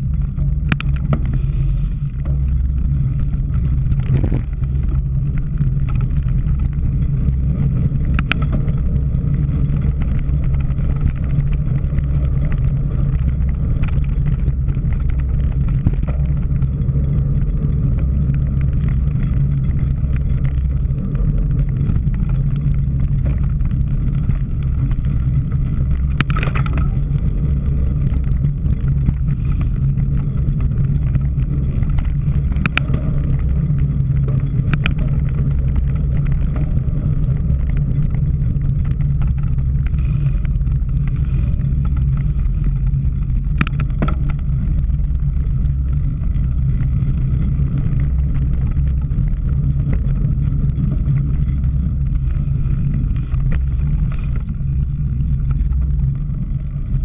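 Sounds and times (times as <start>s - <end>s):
bicycle tyre noise: 0.0s - 57.0s
bike clicks and rattles: 0.0s - 57.0s
wind rumble: 0.0s - 57.0s.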